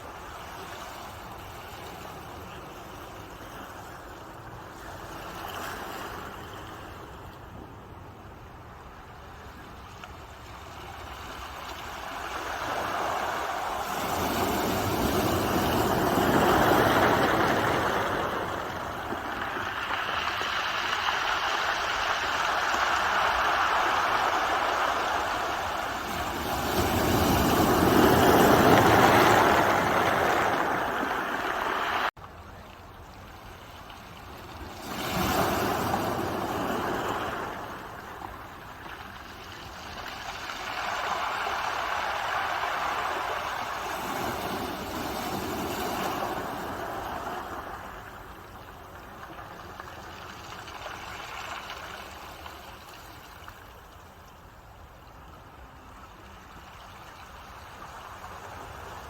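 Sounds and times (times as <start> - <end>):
ocean waves breaking: 0.0 - 32.2, 33.9 - 53.9.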